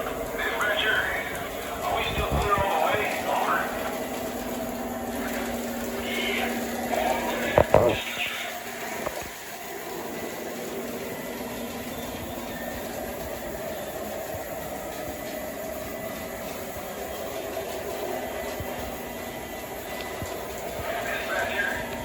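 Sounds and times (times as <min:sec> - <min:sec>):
model train motor hum: 0:00.0 - 0:22.0.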